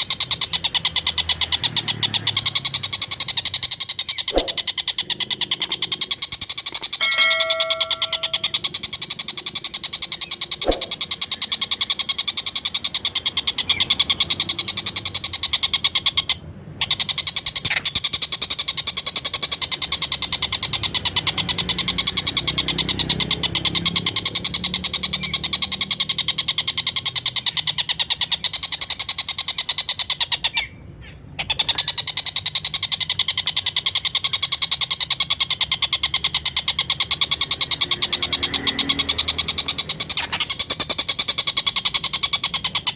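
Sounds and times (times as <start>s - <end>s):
kingfisher rapid chattering call: 0.0s - 42.9s.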